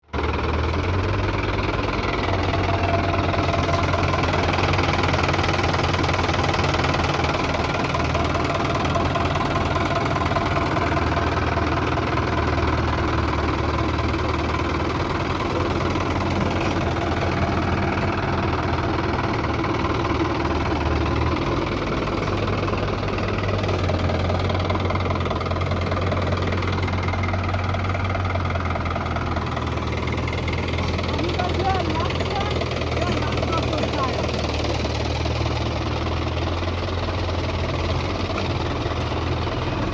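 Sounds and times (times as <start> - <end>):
diesel engine knocking clatter: 0.0 - 39.9.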